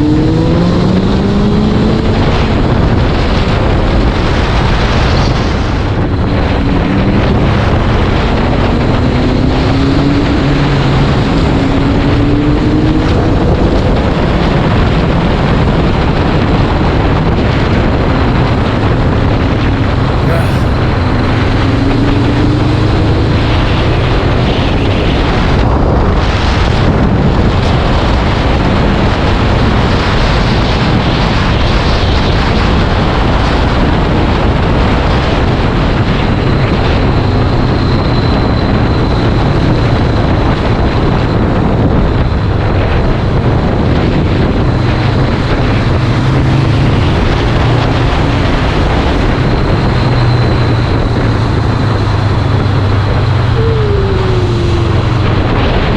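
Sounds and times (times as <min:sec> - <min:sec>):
wind noise on microphone: 0:00.0 - 0:55.9.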